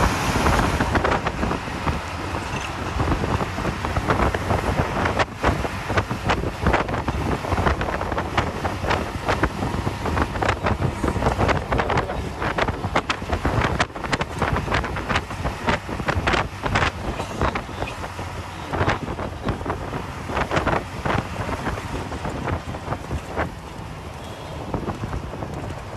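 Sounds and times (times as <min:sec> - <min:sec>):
coach engine and road rumble: 0:00.0 - 0:25.9
wind buffeting microphone: 0:00.0 - 0:25.9.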